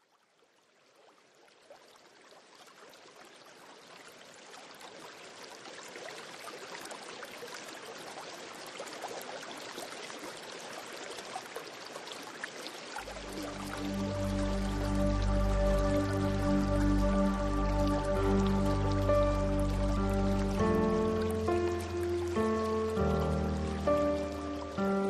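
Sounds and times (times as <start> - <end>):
river water rushing and babbling: 0.1 - 25.0.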